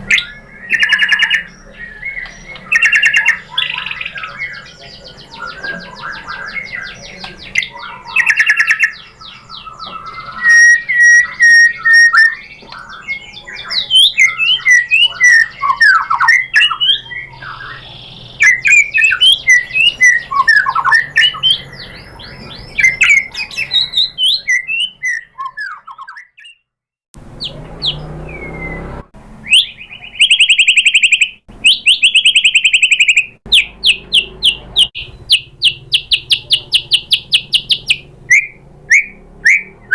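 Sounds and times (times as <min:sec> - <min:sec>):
bird singing whistled trills: 0:00.0 - 0:26.6, 0:27.4 - 0:39.9.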